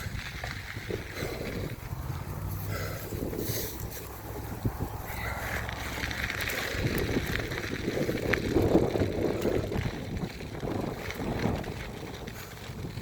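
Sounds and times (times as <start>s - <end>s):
bike tyres rattling over ground: 0.0s - 13.0s
wind buffeting microphone: 0.0s - 13.0s.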